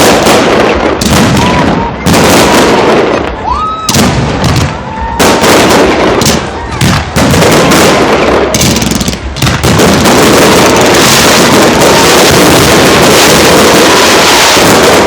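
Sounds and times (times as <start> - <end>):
fireworks barrage: 0.0 - 15.0.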